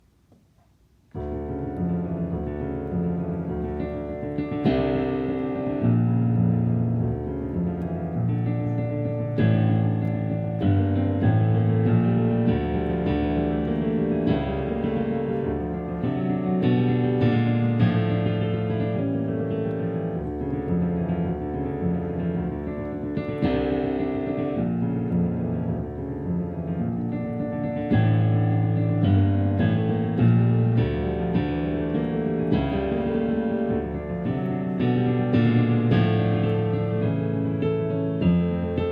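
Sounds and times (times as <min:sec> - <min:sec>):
piano playing chords: 0:01.1 - 0:38.9.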